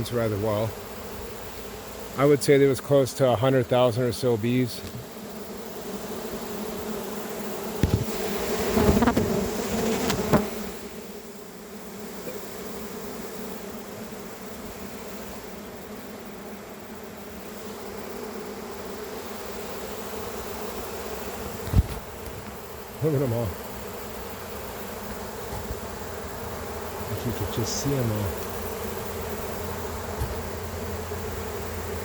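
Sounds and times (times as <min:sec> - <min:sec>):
honey bees buzzing: 0:00.0 - 0:32.0.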